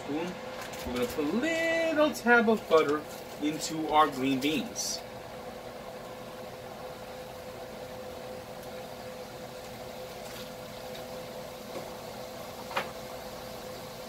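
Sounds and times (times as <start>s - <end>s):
steady appliance hum: 0.0s - 14.0s.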